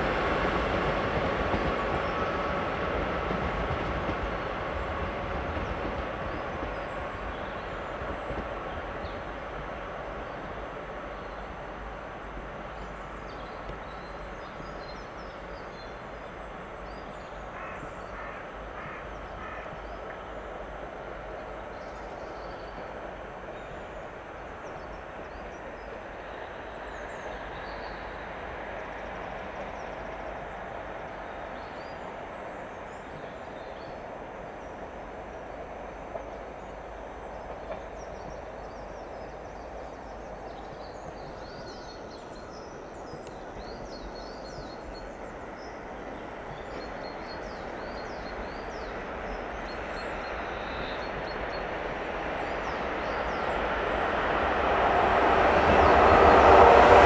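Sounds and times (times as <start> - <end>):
approaching electric locomotive: 0.0 - 57.0
diesel train rumbling: 0.0 - 57.0.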